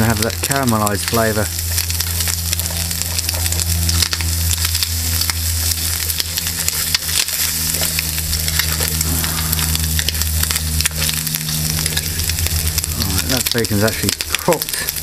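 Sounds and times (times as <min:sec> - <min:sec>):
bacon sizzling in a pot: 0:00.0 - 0:15.0
steady low hum: 0:00.0 - 0:15.0
spatula stirring in pot: 0:01.1 - 0:15.0.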